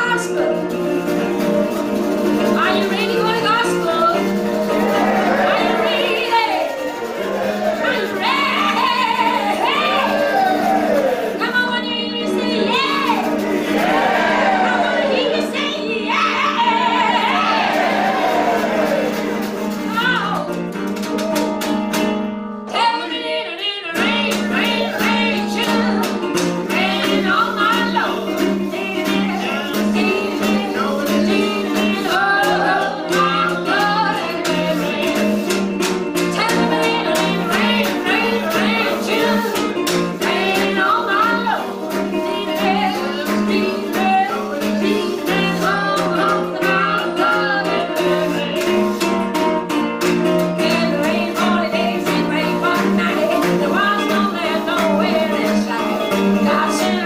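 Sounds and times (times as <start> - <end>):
woman singing: 0.0 - 1.3, 2.3 - 4.8, 5.4 - 7.0, 7.8 - 10.8, 11.4 - 18.1, 19.7 - 20.6, 22.7 - 49.5, 50.2 - 57.0
strummed acoustic guitar: 0.0 - 57.0.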